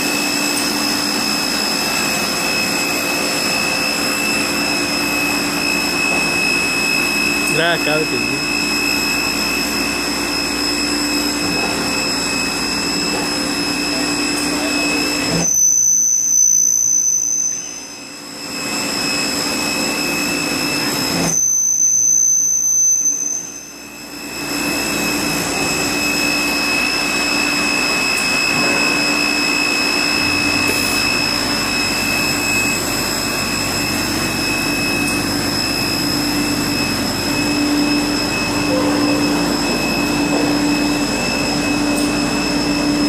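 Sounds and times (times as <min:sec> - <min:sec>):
sawing machine hum and whine: 0:00.0 - 0:43.0
sharp high tone: 0:00.3 - 0:21.1, 0:22.9 - 0:43.0.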